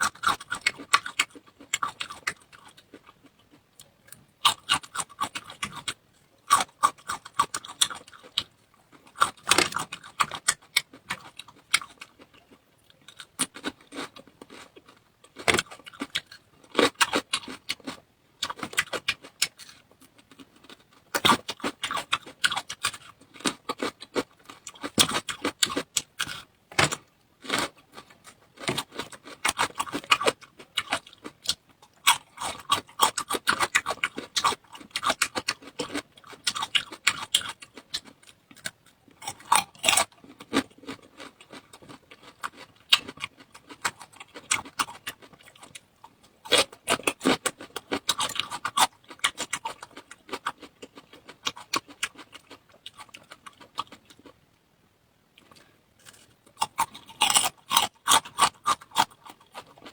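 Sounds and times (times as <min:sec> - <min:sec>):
crisp chewing and crunching: 0:00.0 - 0:54.4, 0:55.4 - 0:59.9.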